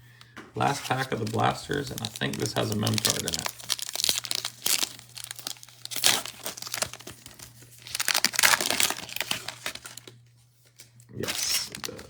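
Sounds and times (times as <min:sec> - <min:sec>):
foil wrapper tearing and crinkling: 0:00.6 - 0:10.2, 0:10.8 - 0:12.0.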